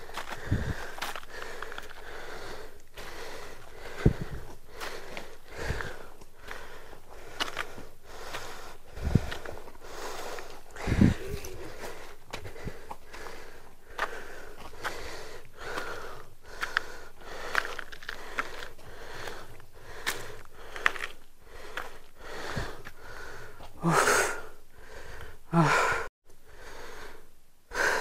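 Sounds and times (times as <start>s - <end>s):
man breathing hard and wheezing: 0.0s - 28.0s.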